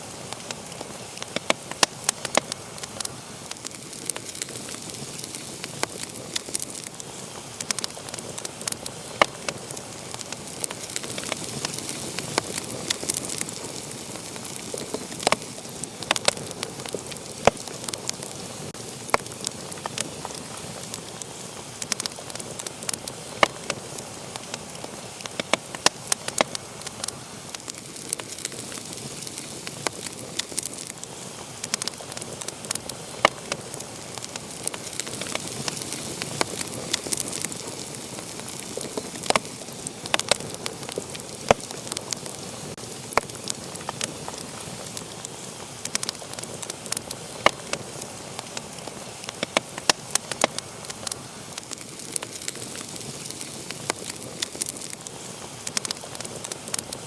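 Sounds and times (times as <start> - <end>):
fire pops and snaps: 0.0 - 57.0
soft hiss of burning: 0.0 - 57.0
wood fire crackling: 0.0 - 57.0.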